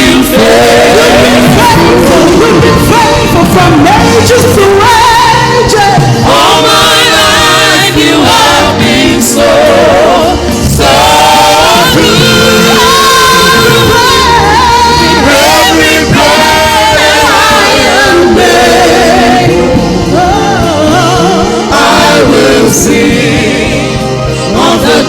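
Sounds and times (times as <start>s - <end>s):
church choir singing: 0.0s - 25.0s
instrumental accompaniment: 0.0s - 25.0s.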